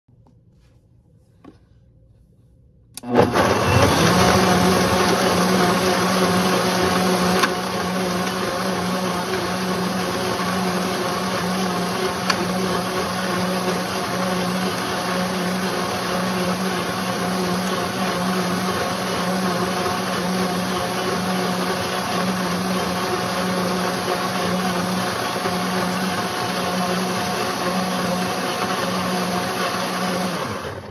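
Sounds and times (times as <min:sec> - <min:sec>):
blender motor running: 0:03.0 - 0:30.9.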